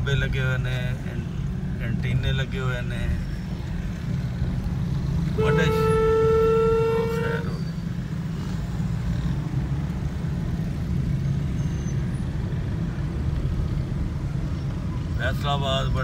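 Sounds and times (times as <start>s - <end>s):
car engine and road noise: 0.0s - 16.0s
city traffic: 0.0s - 16.0s.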